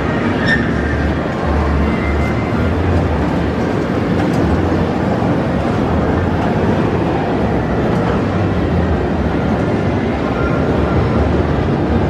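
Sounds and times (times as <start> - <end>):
amusement train rumbling on track: 0.0 - 12.0.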